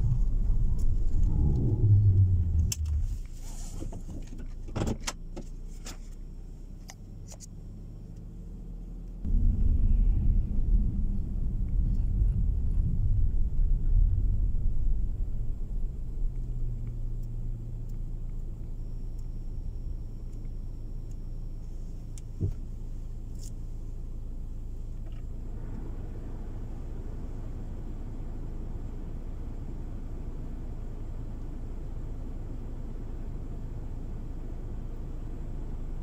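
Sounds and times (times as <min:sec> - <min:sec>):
car interior low hum: 0:00.0 - 0:36.0
engine and tyres rumbling on snow: 0:00.0 - 0:36.0.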